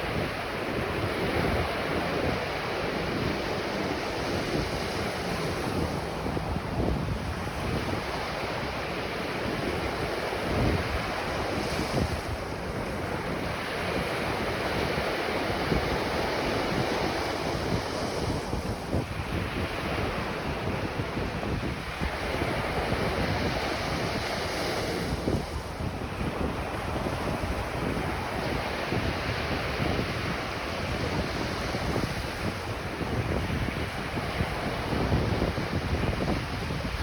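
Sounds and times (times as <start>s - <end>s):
ocean waves breaking on beach: 0.0s - 37.0s
wind buffeting microphone: 0.0s - 37.0s.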